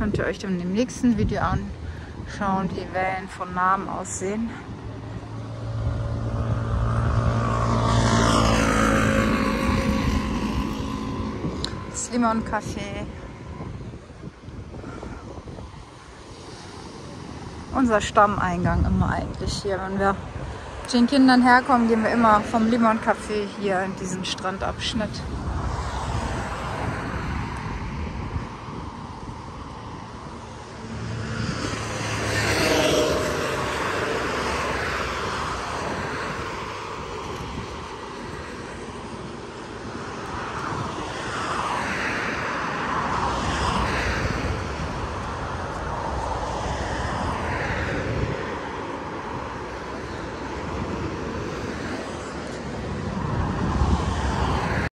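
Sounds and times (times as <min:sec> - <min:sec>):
steady rumbling haze: 0:00.0 - 0:54.9
vehicles passing: 0:00.0 - 0:54.9.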